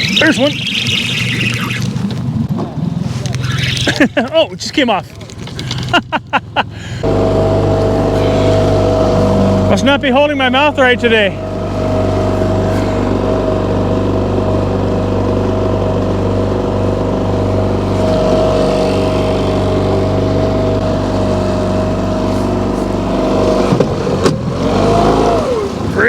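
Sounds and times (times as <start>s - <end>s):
outboard motor droning: 0.0s - 26.0s.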